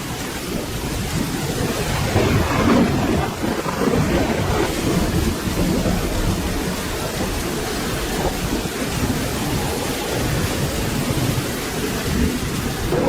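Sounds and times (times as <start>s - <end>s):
steady rain falling: 0.0s - 13.0s
thunder rumbling: 0.0s - 13.0s.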